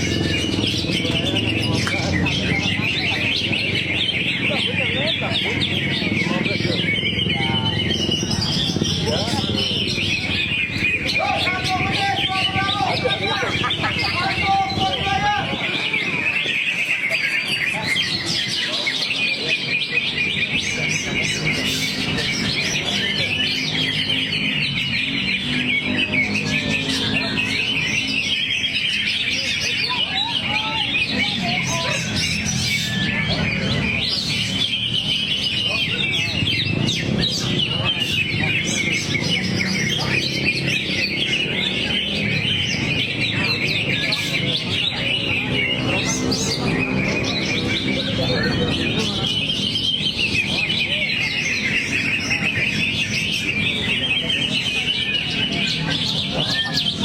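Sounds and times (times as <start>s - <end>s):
bird singing rapid chirps: 0.0s - 57.0s.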